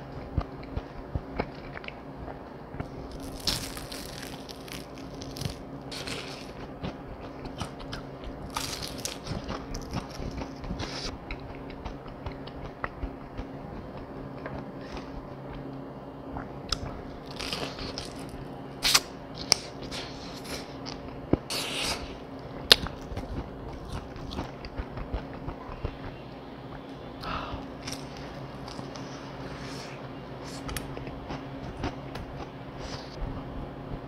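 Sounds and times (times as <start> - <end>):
chewing and crunching fried chicken: 0.0 - 15.7, 16.3 - 33.2.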